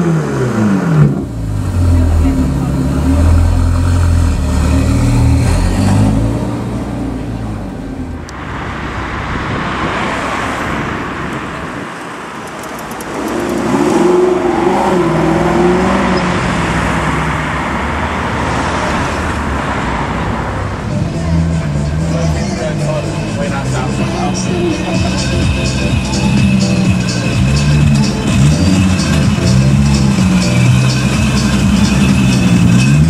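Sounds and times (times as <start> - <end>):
car accelerating away: 0.0 - 33.0
car engine running low: 0.0 - 33.0.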